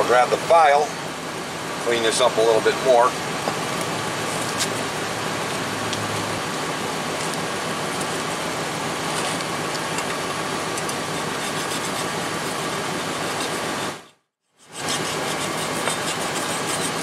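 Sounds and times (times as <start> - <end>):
steady mechanical machine noise: 0.0 - 17.0.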